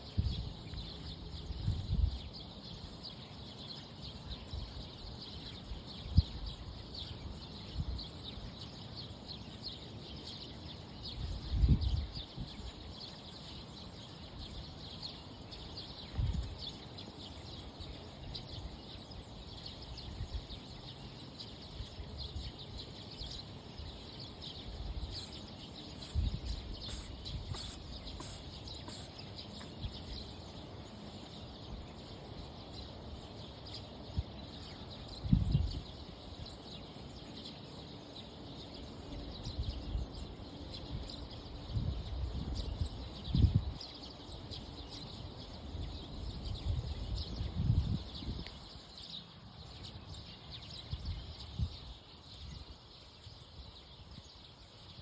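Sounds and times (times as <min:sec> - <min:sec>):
faint high chirping: 0:00.0 - 0:55.0.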